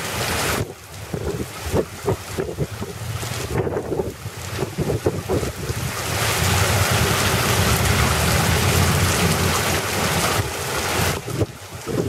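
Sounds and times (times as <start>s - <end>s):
heavy rain pouring: 0.0s - 12.0s
low rumble: 2.0s - 12.0s.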